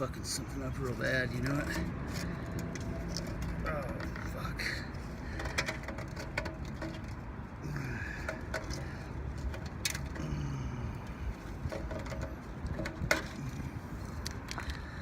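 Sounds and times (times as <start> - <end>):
handling clicks and knocks: 0.8 - 7.5, 8.2 - 10.2, 11.3 - 14.8.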